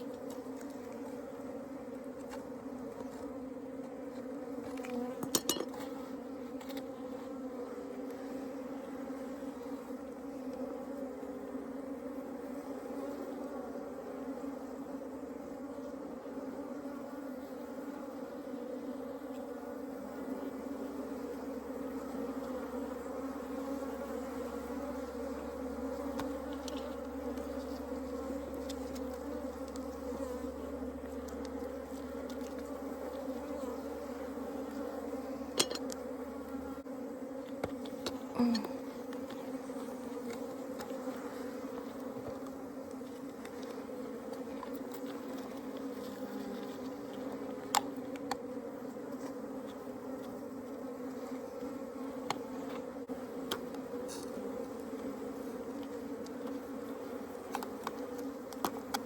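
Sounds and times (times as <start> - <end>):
honeybees buzzing: 0.0 - 59.0.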